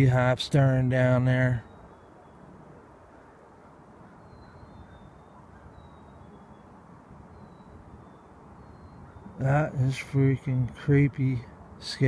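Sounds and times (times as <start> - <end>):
faint high bird chirps: 1.0 - 10.8.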